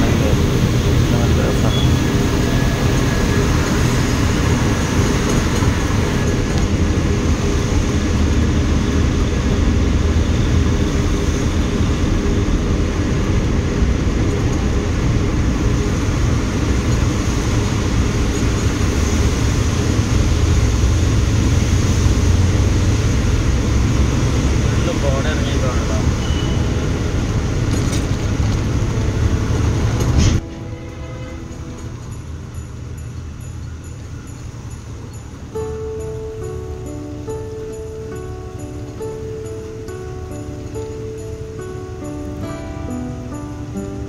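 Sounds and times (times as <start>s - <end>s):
road noise: 0.0s - 44.0s
truck diesel engine rumbling: 0.0s - 44.0s.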